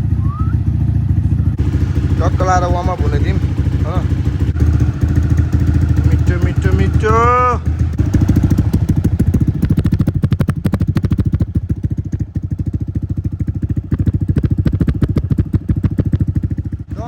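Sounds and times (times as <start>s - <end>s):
motorcycle idling with open exhaust: 0.0s - 17.0s.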